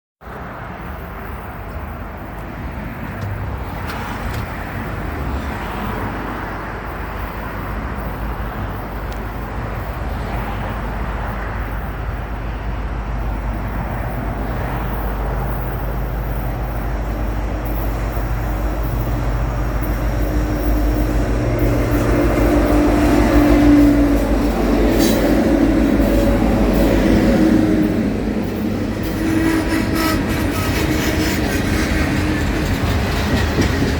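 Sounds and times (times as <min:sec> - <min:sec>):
train rumble: 0:00.2 - 0:33.9.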